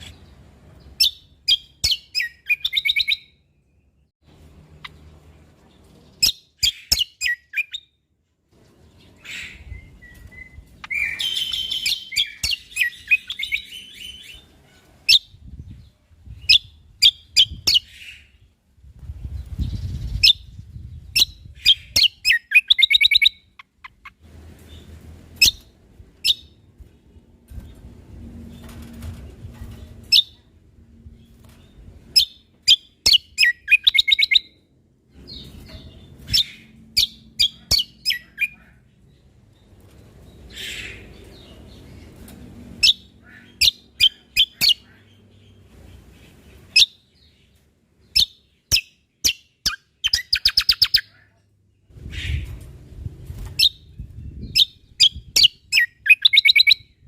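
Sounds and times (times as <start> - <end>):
songbird chirping and trilling: 0.0 - 27.8, 29.6 - 57.0.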